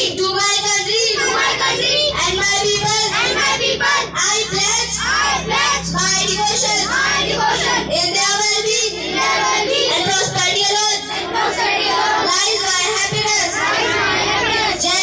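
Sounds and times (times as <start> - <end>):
children chanting in unison: 0.0 - 15.0.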